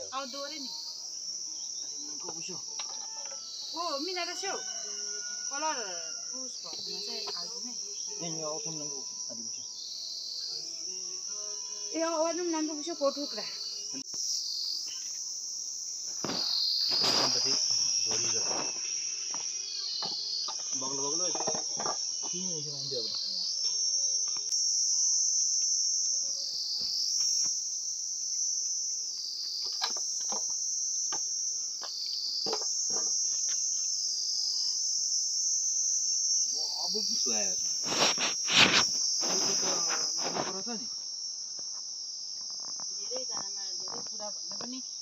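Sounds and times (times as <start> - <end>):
high-pitched insect drone: 0.0 - 45.0.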